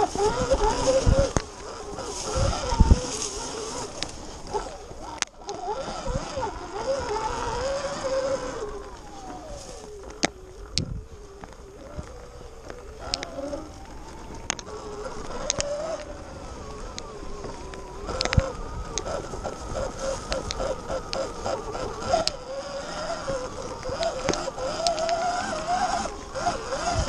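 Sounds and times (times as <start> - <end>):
electric motor whining: 0.0 - 27.0
rapid pulsing: 0.0 - 27.0.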